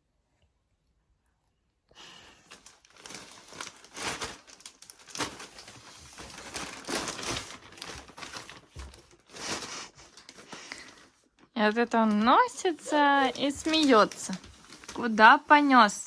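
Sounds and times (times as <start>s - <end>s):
rustling and crinkling: 2.4s - 16.0s.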